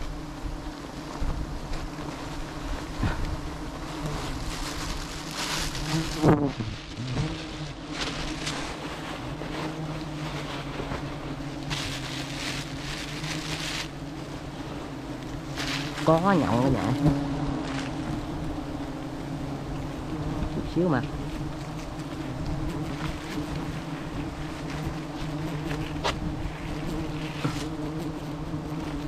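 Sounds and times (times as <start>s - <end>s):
rustling noise: 0.0s - 19.3s, 21.2s - 29.0s
honeybees buzzing: 0.0s - 29.0s.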